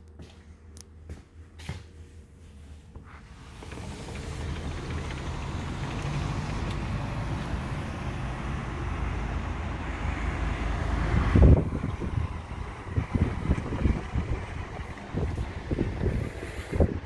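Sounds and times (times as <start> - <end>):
road traffic noise: 1.1 - 17.0.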